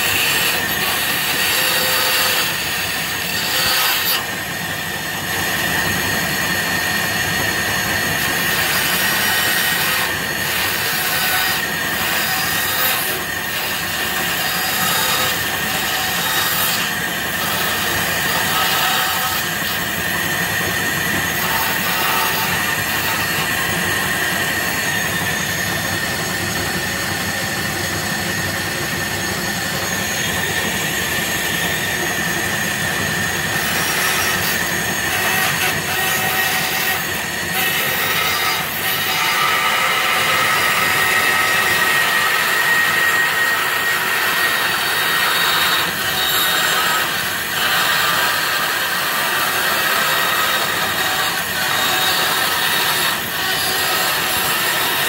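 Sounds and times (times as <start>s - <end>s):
bandsaw whine: 0.0s - 55.0s
saw rasping through wood: 0.0s - 55.0s.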